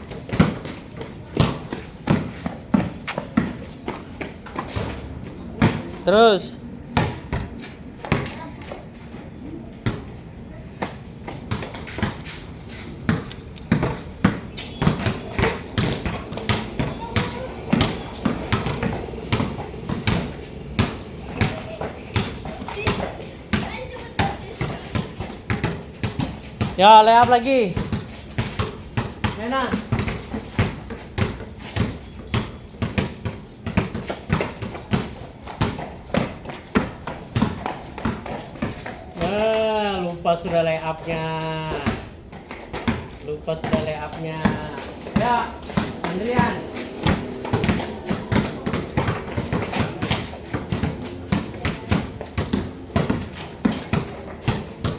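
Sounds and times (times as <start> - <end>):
basketballs bouncing on court floor: 0.0 - 54.9.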